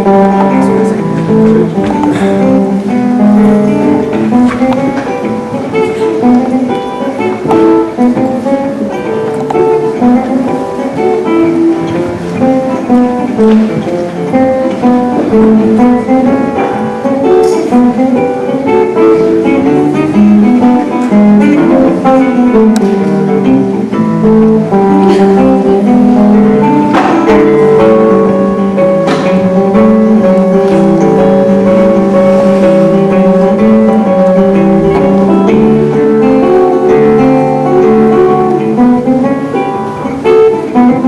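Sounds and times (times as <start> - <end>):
resonator guitar blues: 0.0 - 41.0.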